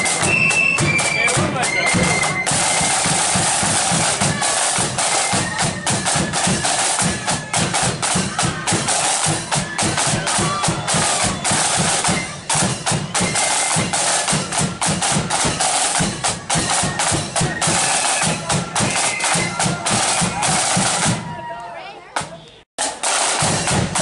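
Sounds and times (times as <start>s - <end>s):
bass drum beating: 0.0s - 21.3s
side drums rattling: 0.0s - 21.4s, 22.8s - 24.0s
flutes playing tune: 0.0s - 21.6s.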